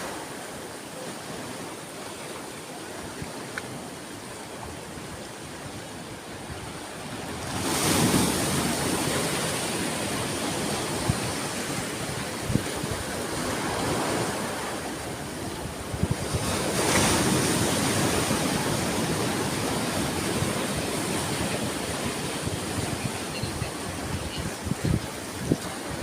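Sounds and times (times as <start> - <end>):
ocean waves on shore: 0.0 - 26.0.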